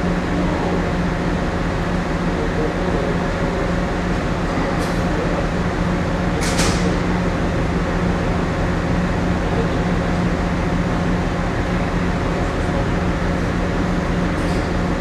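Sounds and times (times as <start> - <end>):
ship machinery humming: 0.0 - 15.0.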